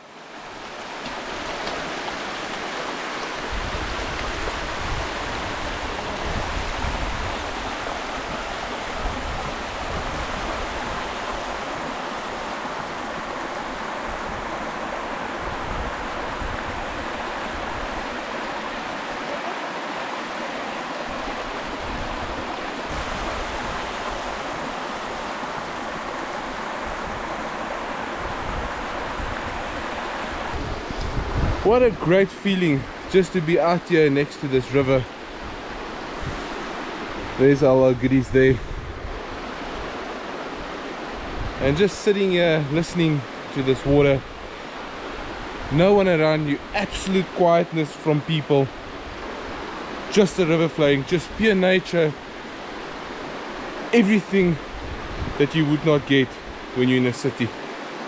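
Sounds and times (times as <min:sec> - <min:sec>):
river rushing over rapids: 0:00.0 - 0:58.0.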